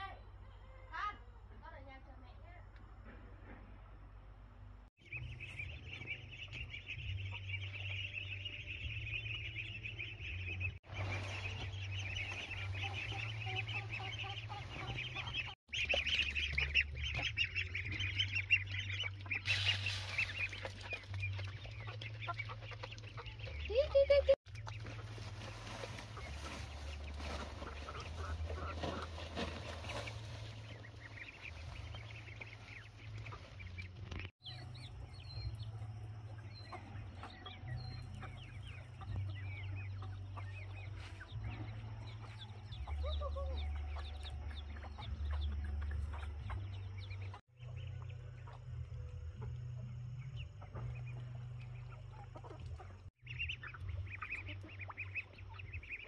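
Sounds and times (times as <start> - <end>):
chickens clucking: 5.1 - 35.5, 36.2 - 56.0.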